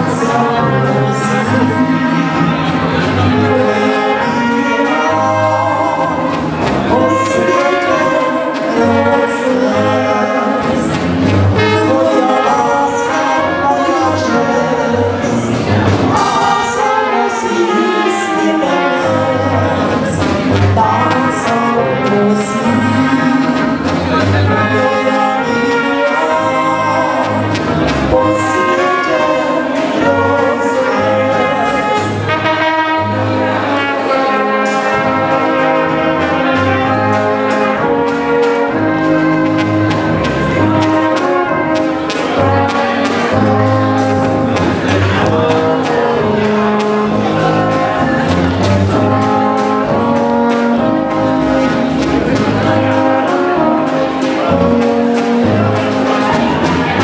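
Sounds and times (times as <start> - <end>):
brass band playing dance tune: 0.0 - 57.0.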